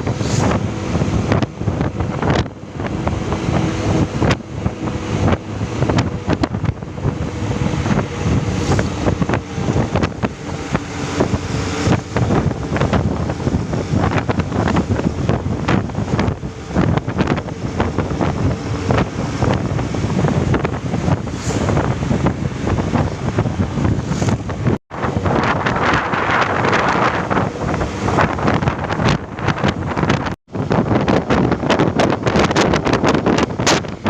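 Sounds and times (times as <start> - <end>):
truck engine drone: 0.0 - 34.0
wind buffeting microphone: 0.0 - 34.0.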